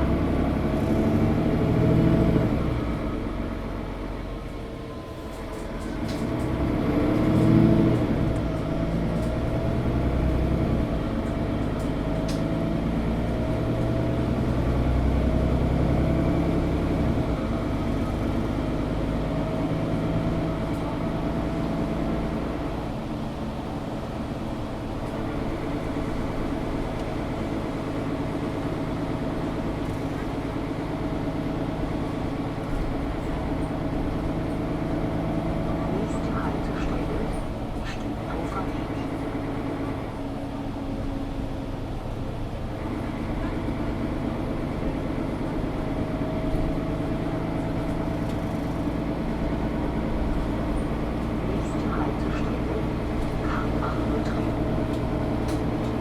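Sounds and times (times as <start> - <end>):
bus engine from inside: 0.0 - 56.0.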